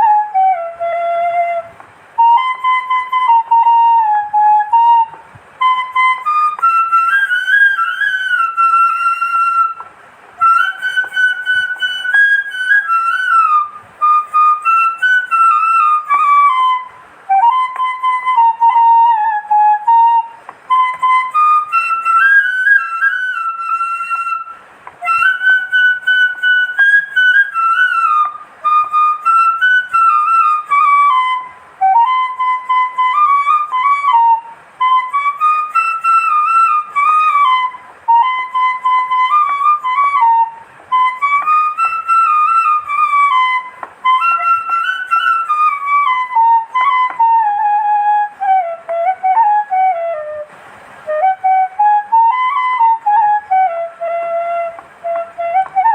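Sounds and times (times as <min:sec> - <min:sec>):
solo flute melody: 0:00.0 - 0:55.9.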